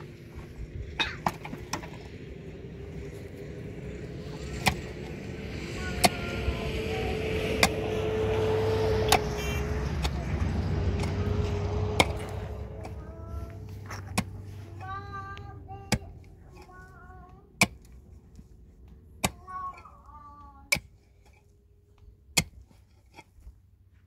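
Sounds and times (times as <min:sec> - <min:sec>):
engine running: 0:00.0 - 0:23.6.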